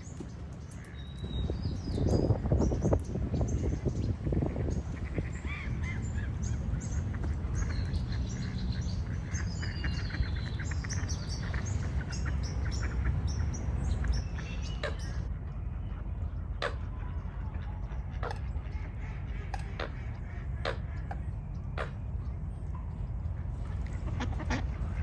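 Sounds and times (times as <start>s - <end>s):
birds chirping and trilling: 0.0s - 25.0s
steady low rumble: 0.0s - 25.0s.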